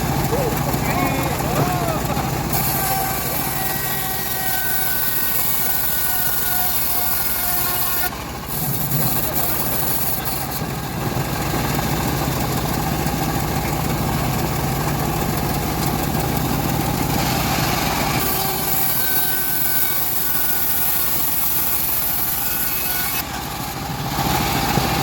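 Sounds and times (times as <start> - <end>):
bandsaw sawmill running: 0.0 - 25.0.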